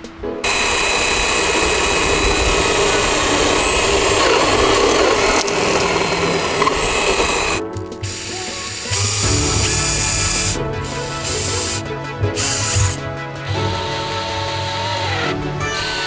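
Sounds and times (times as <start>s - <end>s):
background music: 0.0s - 16.0s
woodworking power tool running: 0.4s - 16.0s.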